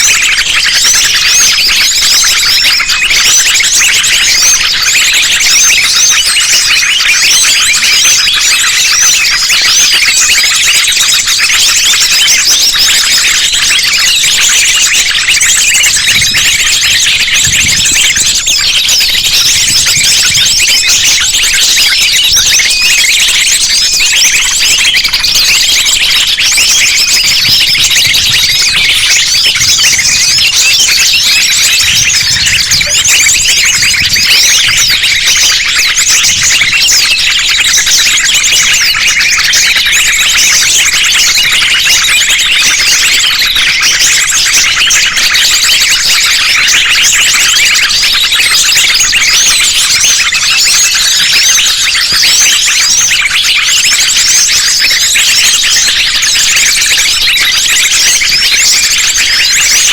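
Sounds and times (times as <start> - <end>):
small songbirds chirping and trilling: 0.0 - 59.9.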